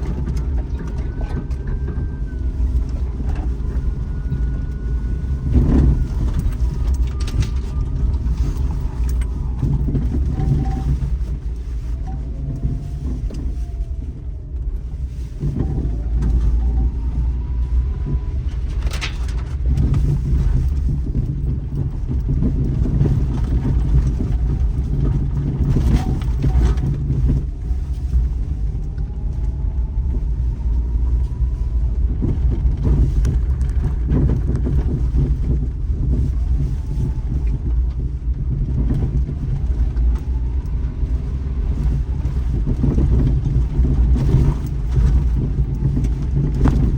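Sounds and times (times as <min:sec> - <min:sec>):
faint rising whines: 0:00.0 - 0:21.0, 0:24.0 - 0:46.9
car engine and tyres rumbling: 0:00.0 - 0:46.9.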